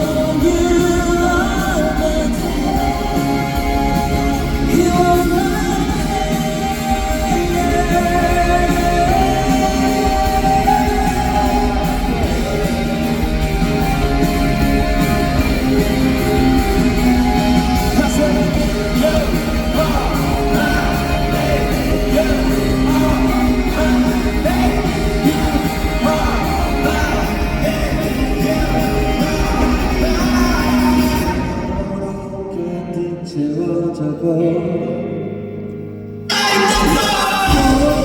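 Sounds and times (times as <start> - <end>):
live rock band with singing: 0.0 - 38.0.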